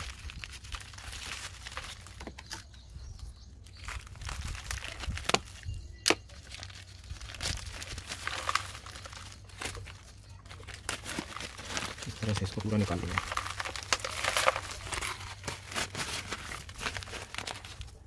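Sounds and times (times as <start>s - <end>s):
plastic bag crinkling and tearing: 0.0s - 2.8s, 3.6s - 18.0s.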